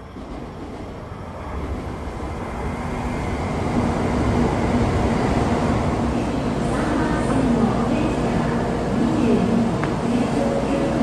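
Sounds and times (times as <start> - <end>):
low steady train hum: 0.0 - 11.0
train rumble and air rush: 0.0 - 11.0.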